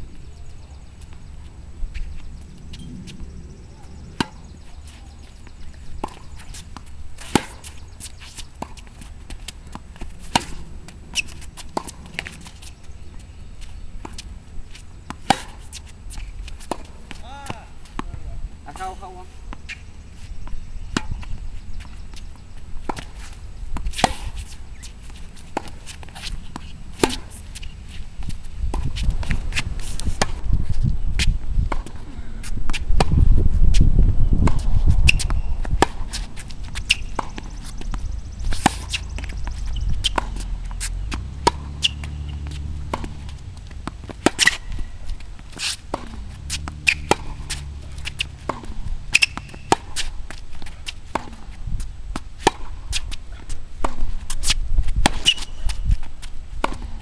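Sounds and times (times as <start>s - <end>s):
tennis ball bouncing: 4.2s - 19.8s, 20.4s - 30.5s, 32.7s - 33.2s, 34.4s - 57.0s
rackets striking tennis ball: 4.2s - 30.6s, 34.4s - 57.0s.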